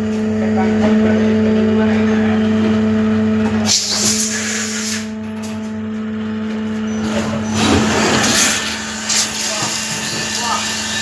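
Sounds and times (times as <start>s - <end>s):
machine tool humming: 0.1s - 11.0s.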